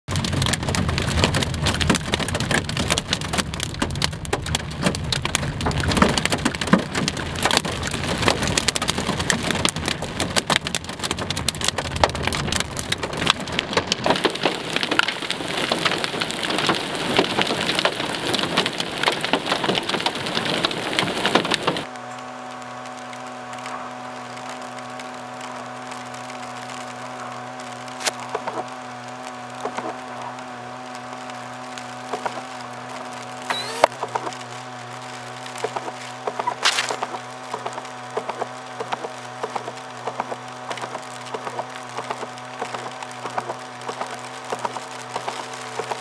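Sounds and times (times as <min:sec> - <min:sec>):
hail and rain on car roof: 0:00.1 - 0:46.0.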